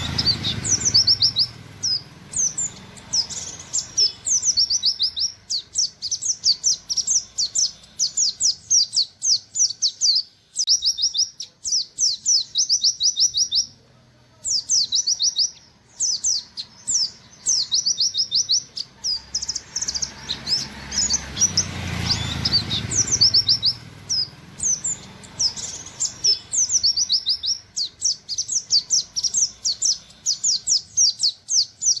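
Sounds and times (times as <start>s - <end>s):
bird singing rapid high notes: 0.0s - 32.0s.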